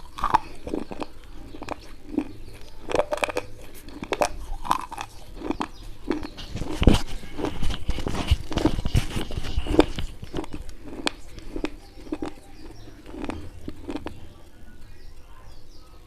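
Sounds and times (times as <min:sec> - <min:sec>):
crunching and chewing: 0:00.0 - 0:15.8.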